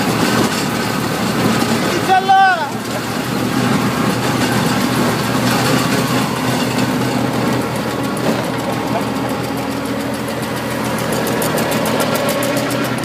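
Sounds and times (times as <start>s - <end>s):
flail mulcher shredding grass: 0.0s - 13.0s
tractor engine running: 0.0s - 13.0s.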